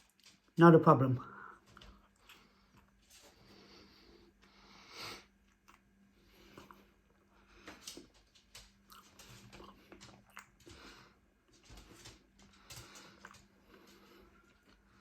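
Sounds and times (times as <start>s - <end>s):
low steady hum: 0.0s - 15.0s
person chewing food: 1.6s - 15.0s.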